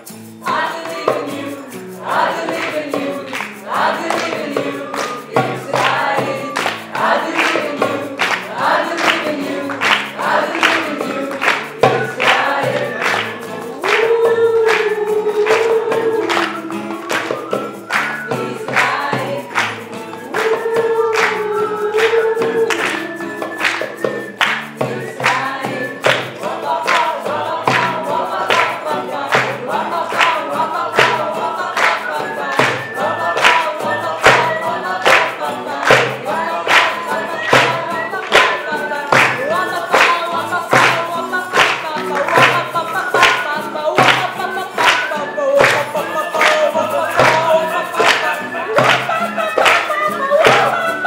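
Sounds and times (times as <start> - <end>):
acoustic guitar strumming: 0.0 - 51.0
group singing in unison: 0.0 - 51.0
hand percussion beat: 0.0 - 51.0.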